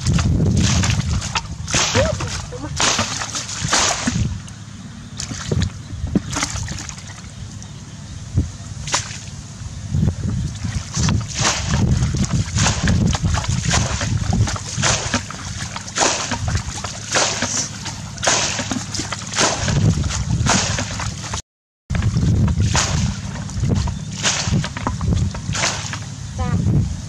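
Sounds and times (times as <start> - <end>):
bucket scooping water splashes: 0.0 - 4.6, 5.2 - 7.7, 8.8 - 9.4, 10.4 - 26.2.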